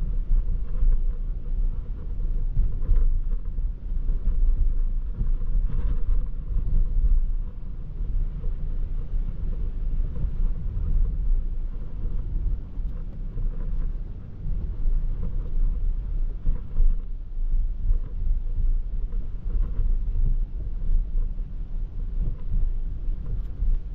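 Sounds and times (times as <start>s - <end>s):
road and wind noise: 0.0s - 23.9s.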